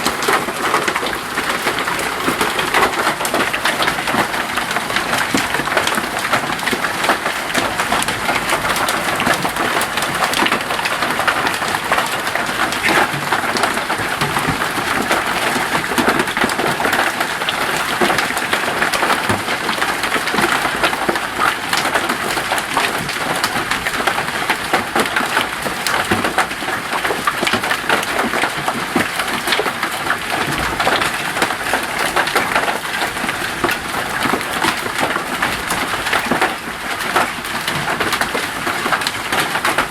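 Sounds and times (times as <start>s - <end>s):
hailstones clattering: 0.0s - 39.9s.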